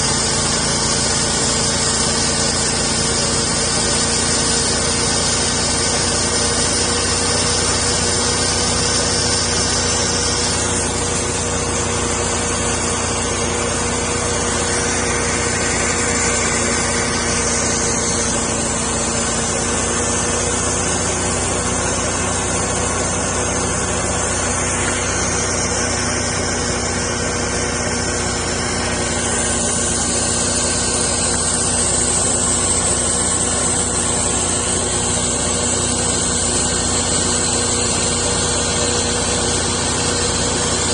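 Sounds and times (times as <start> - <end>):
engine hum: 0.0 - 40.9
sawmill blade cutting log: 0.0 - 40.9.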